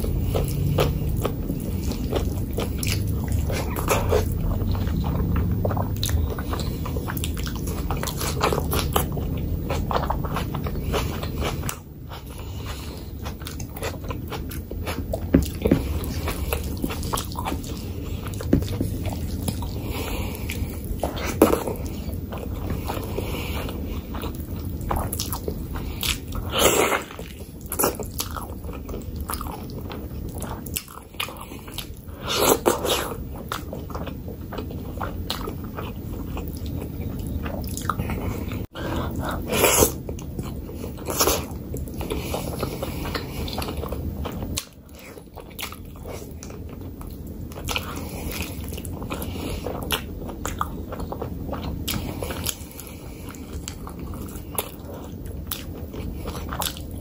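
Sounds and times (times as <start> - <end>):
wet chewing and mouth smacks: 0.0 - 57.0.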